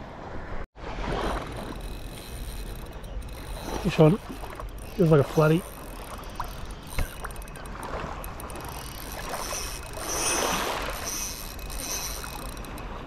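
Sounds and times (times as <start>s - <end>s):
water sloshing and splashing: 0.8s - 13.0s.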